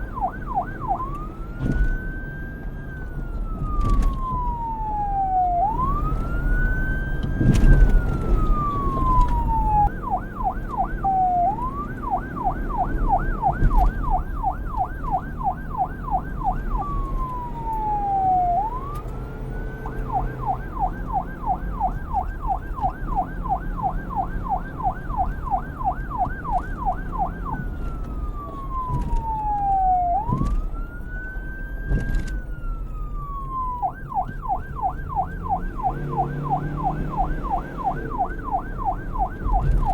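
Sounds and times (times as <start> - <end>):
police siren wailing and yelping: 0.0 - 39.9.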